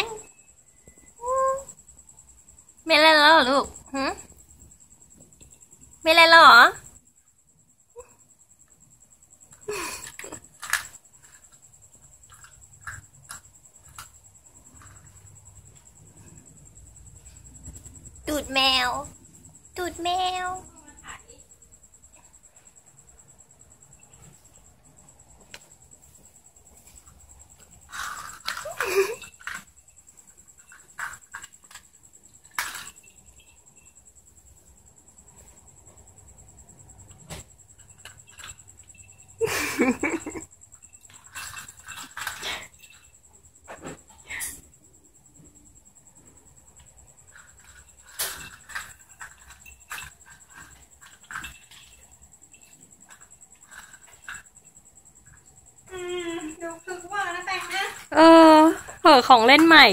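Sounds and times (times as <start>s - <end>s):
kitten batting toy on tiled floor: 6.8s - 59.8s.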